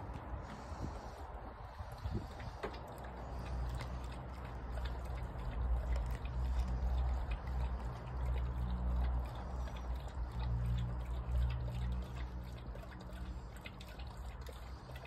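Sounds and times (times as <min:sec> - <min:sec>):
dog lapping water: 0:00.0 - 0:15.0
small irregular clicks: 0:02.4 - 0:15.0.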